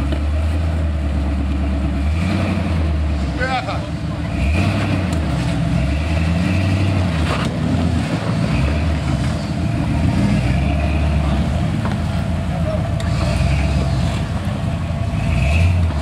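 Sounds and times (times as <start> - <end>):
off-road vehicle engine at low revs: 0.0 - 16.0.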